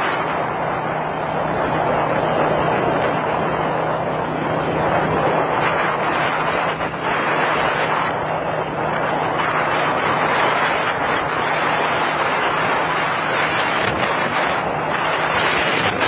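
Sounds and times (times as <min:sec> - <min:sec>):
engine drone: 0:00.0 - 0:16.0
wind rushing over microphone: 0:00.0 - 0:16.0.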